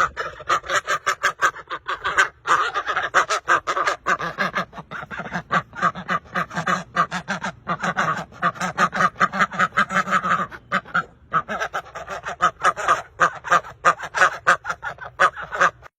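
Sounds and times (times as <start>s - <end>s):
flock of birds calling: 0.0s - 15.9s.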